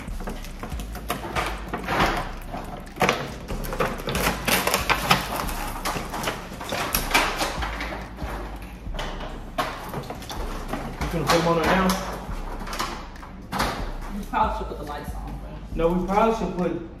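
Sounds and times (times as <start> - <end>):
plastic container crackling: 0.0 - 14.9.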